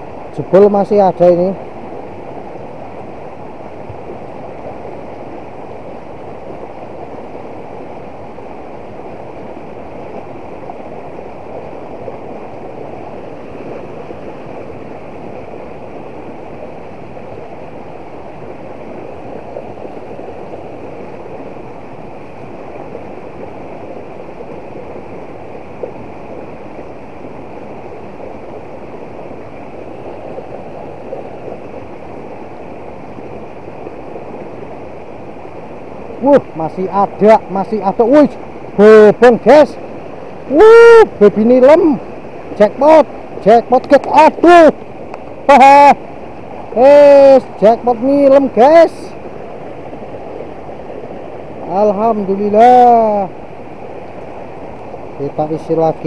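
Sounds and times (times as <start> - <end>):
river running over rocks: 0.0 - 56.0.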